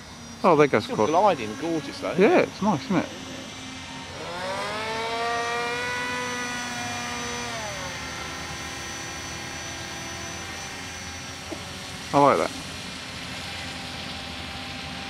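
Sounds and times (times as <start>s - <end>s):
model aircraft motor whining: 0.0s - 15.0s.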